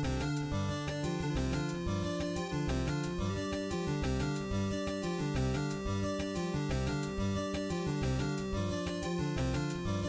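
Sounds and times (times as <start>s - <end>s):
background music with bass beat: 0.0s - 10.0s.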